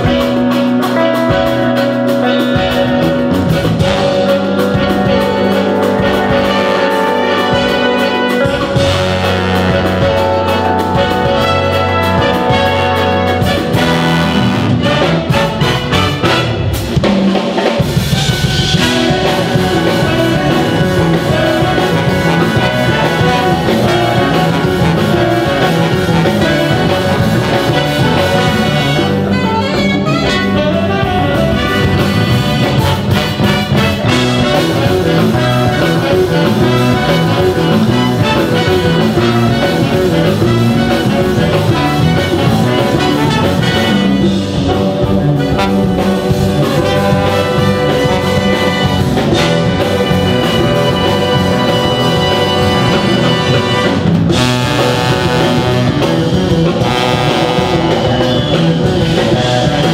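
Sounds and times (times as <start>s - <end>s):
big band playing: 0.0s - 59.9s
drum kit: 0.0s - 59.9s
trumpets and trombones: 0.0s - 59.9s.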